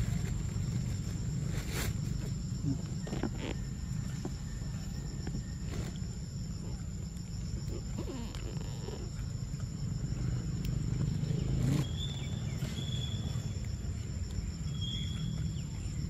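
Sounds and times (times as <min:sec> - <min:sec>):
insects droning: 0:00.0 - 0:16.0
low outdoor rumble: 0:00.0 - 0:16.0.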